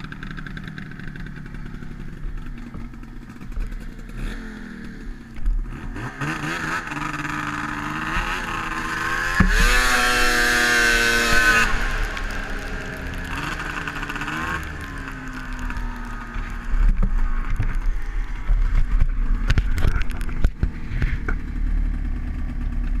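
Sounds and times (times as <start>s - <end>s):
snowmobile engine idling: 0.0s - 23.0s.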